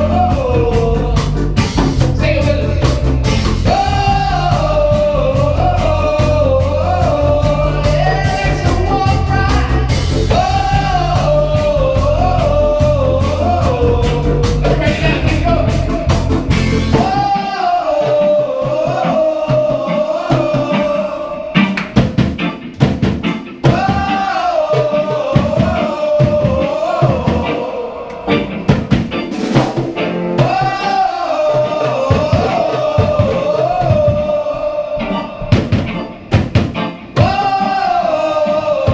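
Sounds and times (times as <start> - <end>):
person singing: 0.0 - 22.0, 23.6 - 28.8, 30.4 - 36.1, 37.1 - 38.9
bass guitar: 0.0 - 37.8
drums: 0.0 - 38.9.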